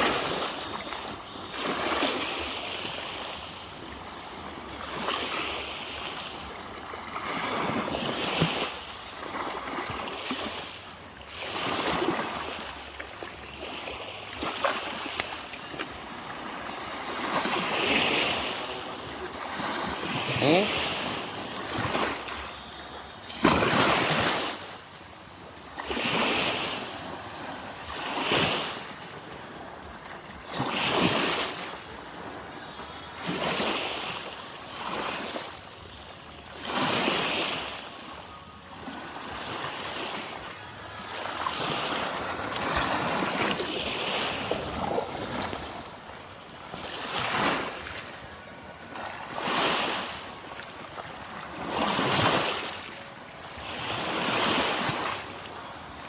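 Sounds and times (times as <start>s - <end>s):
small waves washing ashore: 0.0s - 56.0s.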